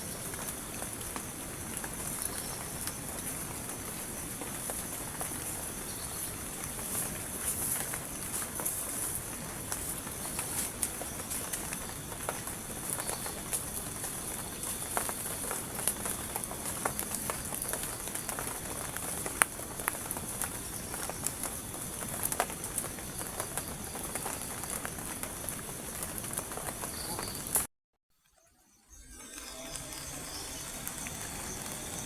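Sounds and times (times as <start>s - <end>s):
insects high-pitched drone: 0.0s - 27.6s, 28.5s - 32.0s.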